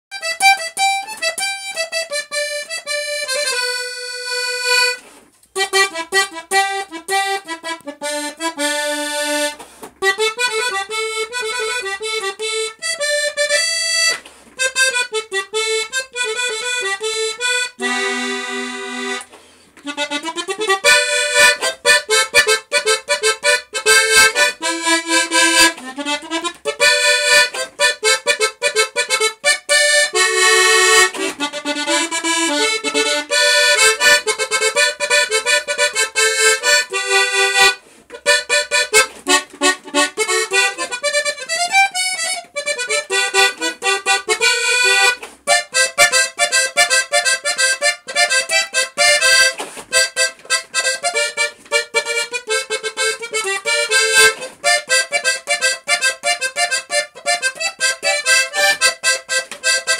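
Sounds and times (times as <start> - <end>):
button accordion playing: 0.1 - 59.9.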